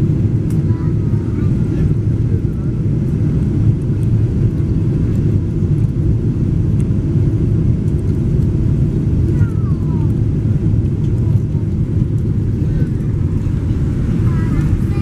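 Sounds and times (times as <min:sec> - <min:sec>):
aeroplane rumble: 0:00.0 - 0:15.0.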